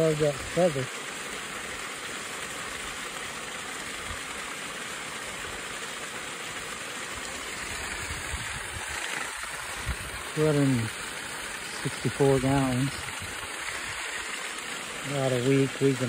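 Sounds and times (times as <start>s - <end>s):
hose water pouring into pond: 0.0s - 16.0s.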